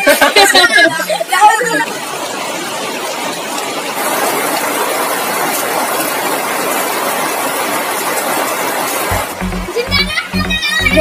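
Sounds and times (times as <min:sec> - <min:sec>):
heavy rain on puddles: 0:00.0 - 0:11.0.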